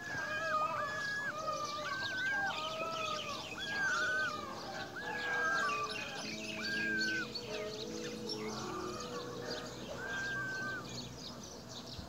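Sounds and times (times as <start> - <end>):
held whistled bird notes: 0.0 - 11.4
high bird chirps: 0.3 - 11.4.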